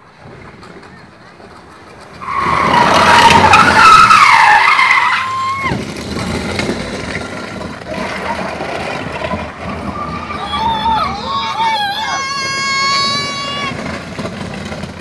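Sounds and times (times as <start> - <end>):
engine and tyre noise: 0.0 - 15.0
car tyres squealing: 0.8 - 15.0.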